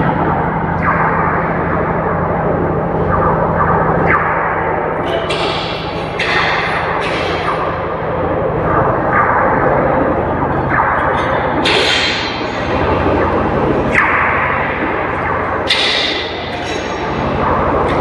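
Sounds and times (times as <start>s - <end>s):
constant work din: 0.0s - 18.0s
low machine hum: 0.0s - 18.0s.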